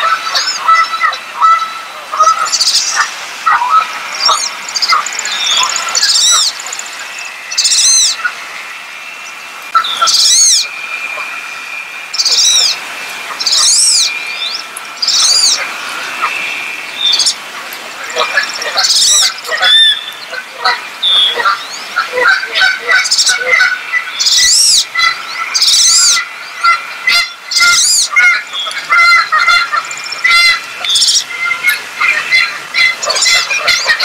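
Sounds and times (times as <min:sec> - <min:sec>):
duck whistled calls: 0:00.0 - 0:17.4, 0:18.0 - 0:34.0
small birds chirping: 0:00.2 - 0:34.0.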